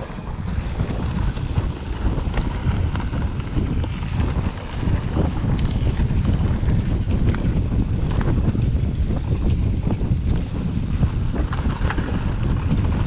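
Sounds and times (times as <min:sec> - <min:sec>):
bike rattling and clicking: 0:00.0 - 0:13.0
rumble of bike tyres: 0:00.0 - 0:13.0
wind buffeting microphone: 0:00.0 - 0:13.0.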